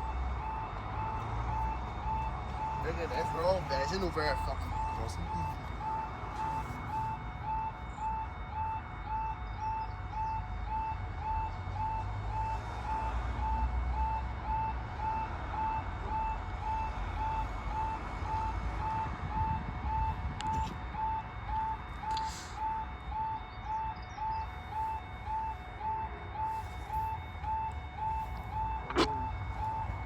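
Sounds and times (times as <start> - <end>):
level crossing alarm beeps: 0.0 - 30.0.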